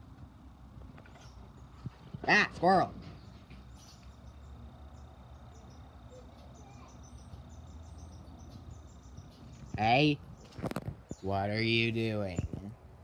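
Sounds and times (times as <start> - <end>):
low steady rumble: 0.0 - 13.0
small birds chirping: 0.2 - 13.0.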